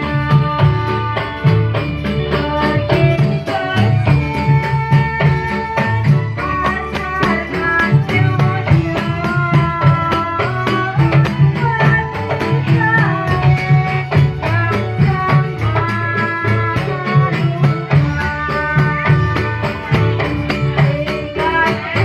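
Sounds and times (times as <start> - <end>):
drum beat: 0.0 - 22.0
rattling percussion: 0.0 - 22.0.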